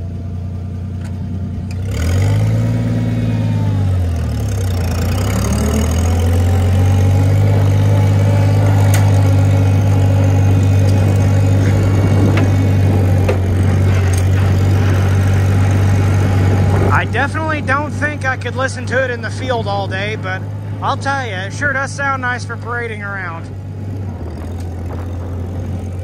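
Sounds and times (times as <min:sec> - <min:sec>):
tractor engine revving: 0:00.0 - 0:26.0.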